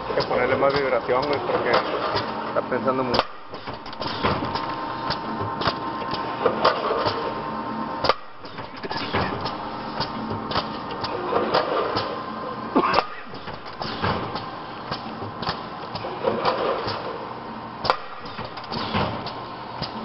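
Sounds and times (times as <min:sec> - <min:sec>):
packaging machine humming: 0:00.0 - 0:20.0
machine clacks: 0:00.2 - 0:07.3, 0:08.0 - 0:12.2, 0:12.9 - 0:17.2, 0:17.8 - 0:20.0.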